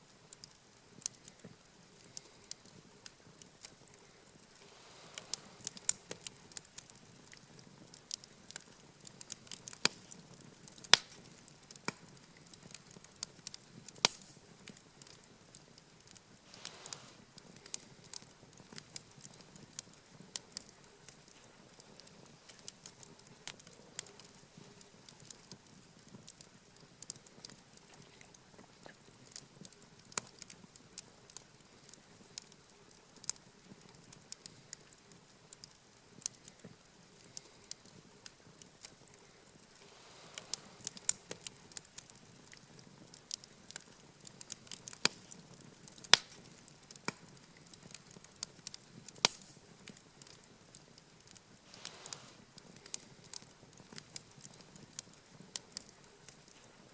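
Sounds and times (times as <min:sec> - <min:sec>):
campfire crackling and popping: 0:00.0 - 0:56.9
faint hiss: 0:00.0 - 0:56.9.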